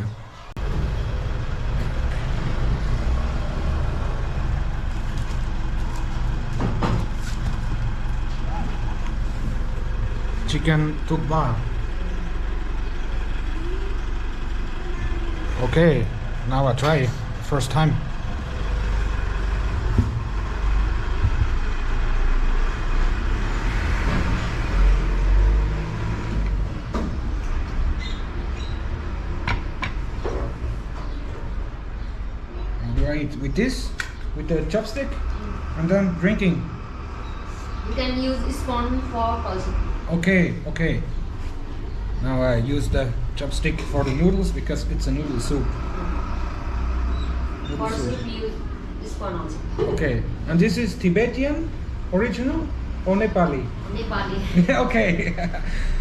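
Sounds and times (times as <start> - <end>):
motor vehicle engine rumbling: 0.0 - 56.0.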